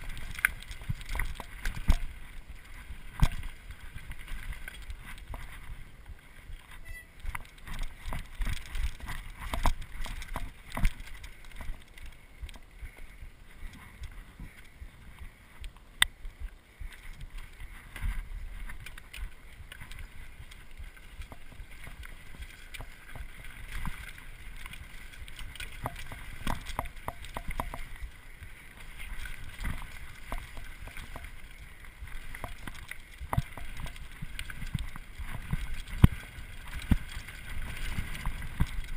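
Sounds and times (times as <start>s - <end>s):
bike rattling over bumps: 0.0s - 15.1s, 16.9s - 38.9s
bike tyres rumbling on dirt: 0.0s - 38.9s.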